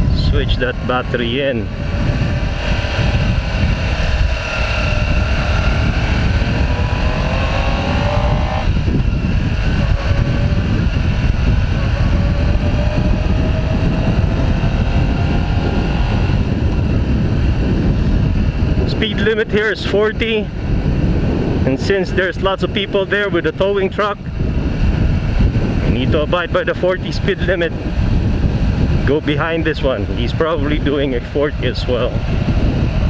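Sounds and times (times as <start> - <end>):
motorcycle engine accelerating: 0.0 - 33.0
wind rumble on microphone: 0.0 - 33.0.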